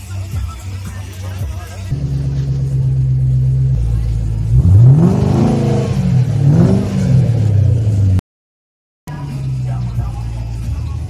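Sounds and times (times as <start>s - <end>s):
car engine revving: 0.7s - 8.2s, 9.1s - 11.0s.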